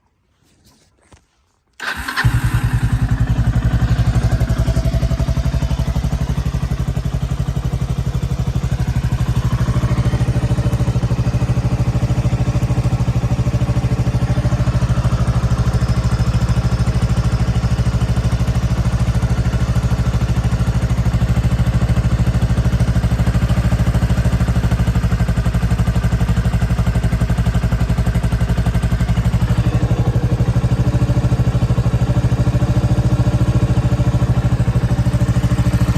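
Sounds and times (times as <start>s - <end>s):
motorcycle engine idling: 1.8s - 35.9s.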